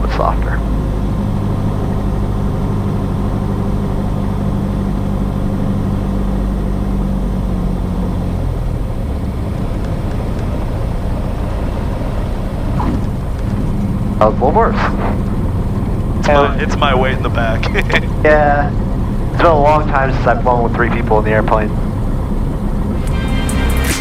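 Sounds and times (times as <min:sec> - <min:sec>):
aircraft engine and propeller drone: 0:00.0 - 0:24.0.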